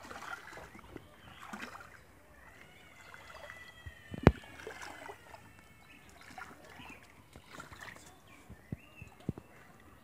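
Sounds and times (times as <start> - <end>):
muddy water splashing: 0.0 - 10.0.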